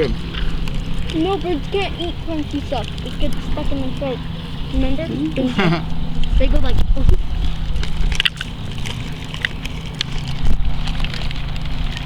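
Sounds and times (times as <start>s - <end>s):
low mechanical hum: 0.0s - 12.0s
low rumble: 0.0s - 12.0s.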